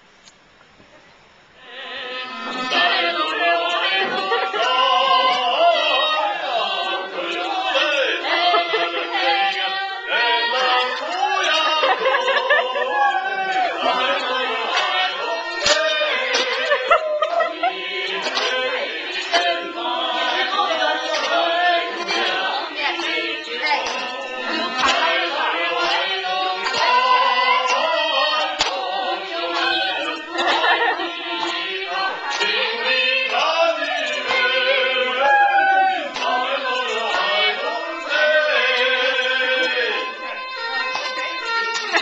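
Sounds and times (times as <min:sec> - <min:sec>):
children singing together: 0:01.6 - 0:42.0.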